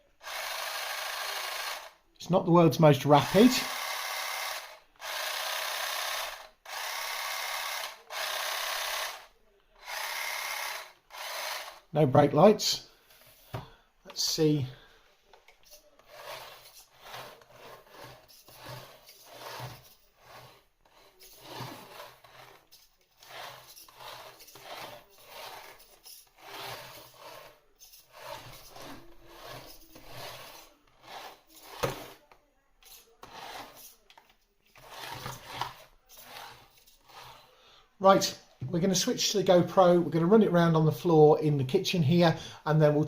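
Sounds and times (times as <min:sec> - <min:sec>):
toy car motor whirring: 0:00.2 - 0:12.0, 0:15.2 - 0:38.4.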